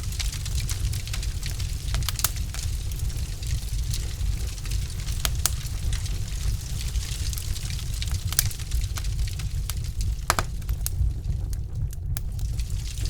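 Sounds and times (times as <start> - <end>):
logs crackling and popping: 0.0 - 13.0
wood fire rumbling: 0.0 - 13.0.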